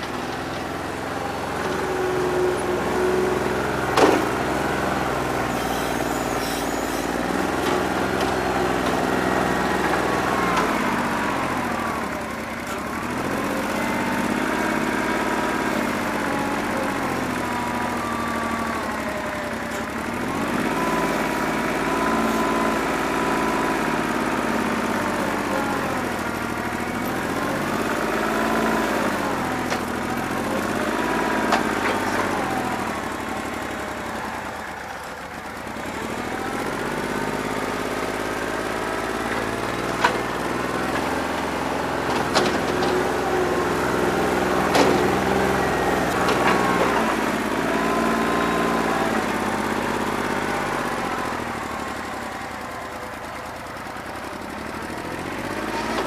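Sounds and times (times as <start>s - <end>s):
diesel tractor engine revving: 0.0s - 56.0s.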